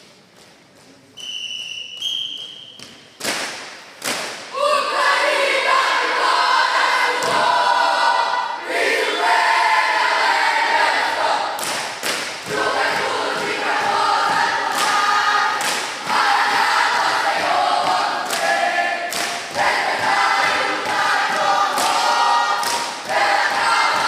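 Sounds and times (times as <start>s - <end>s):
young voices singing in unison: 4.5s - 24.0s.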